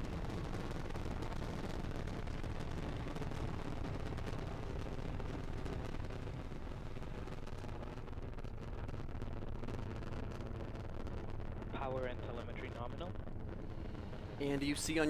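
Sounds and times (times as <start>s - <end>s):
rocket engines crackling rumble: 0.0s - 15.0s.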